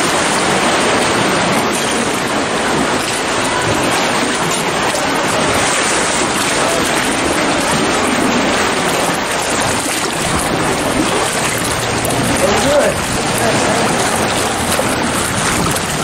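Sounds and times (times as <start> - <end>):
seawater splashing around kayak: 0.0 - 16.0.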